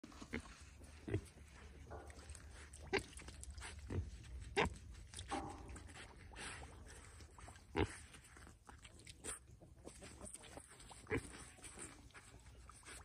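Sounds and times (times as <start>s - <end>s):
piglets rooting in wet mud: 0.0s - 13.0s.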